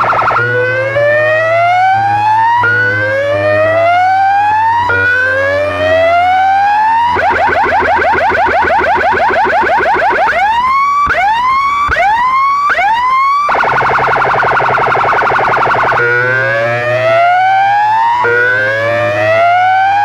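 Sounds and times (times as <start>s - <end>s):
electronic siren effects: 0.0s - 20.0s.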